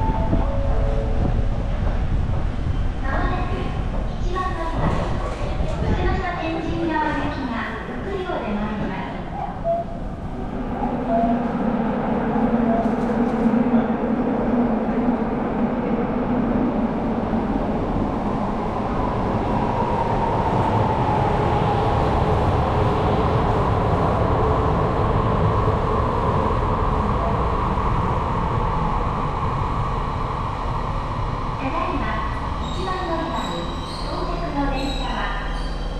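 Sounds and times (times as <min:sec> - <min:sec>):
subway train rail rumble: 0:00.0 - 0:35.9.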